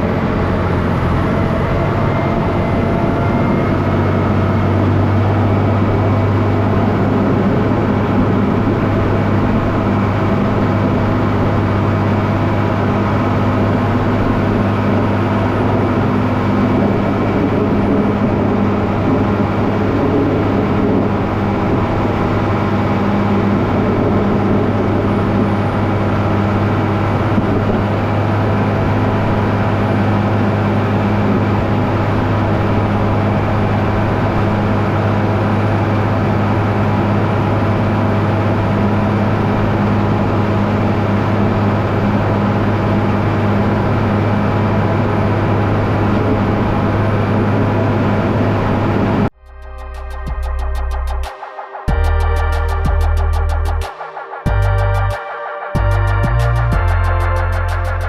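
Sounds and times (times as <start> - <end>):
vehicle engine droning: 0.0 - 51.3.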